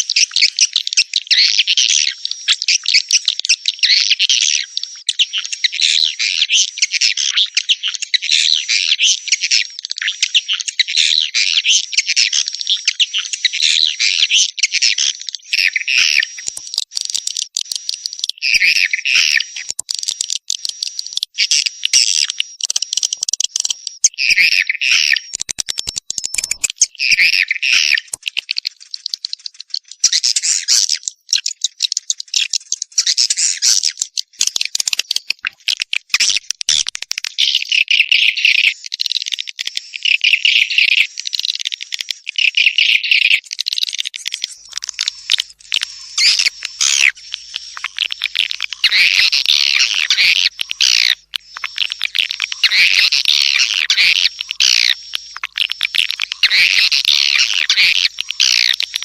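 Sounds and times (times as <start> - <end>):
swiftlets twittering and chirping: 0.1 - 38.8, 39.8 - 59.0.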